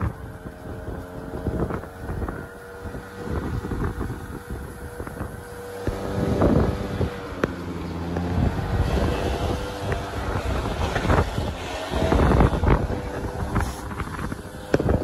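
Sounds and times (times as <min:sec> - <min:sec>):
engine running: 0:00.0 - 0:15.0
wind buffeting microphone: 0:00.0 - 0:15.0.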